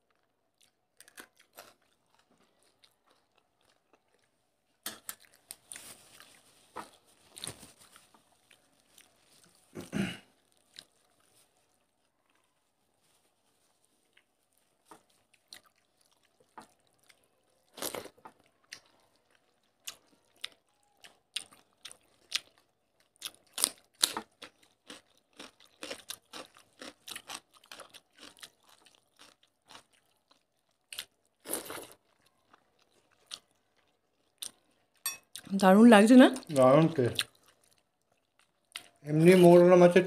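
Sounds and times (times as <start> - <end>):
chewing and crunching food: 0.0 - 35.5, 36.2 - 39.9.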